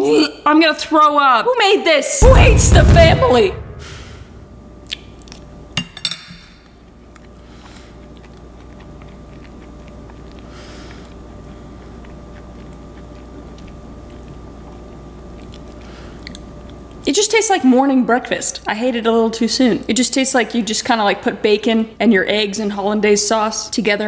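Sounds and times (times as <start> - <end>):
steady low hum: 2.2 - 24.0.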